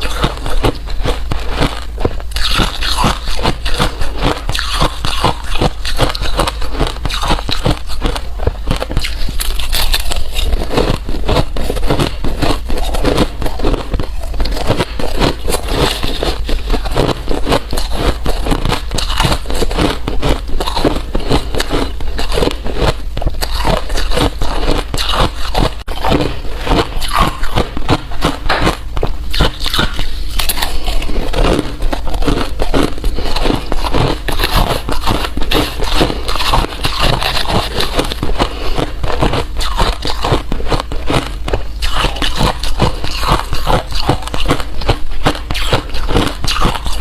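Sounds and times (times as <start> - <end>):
ice crunching while chewed: 0.0 - 47.0.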